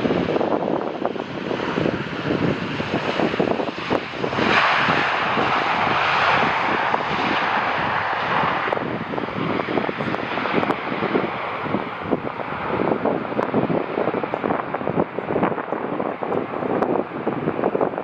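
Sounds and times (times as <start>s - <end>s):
jet engine noise: 0.0s - 18.0s
wind buffeting microphone: 0.0s - 18.0s.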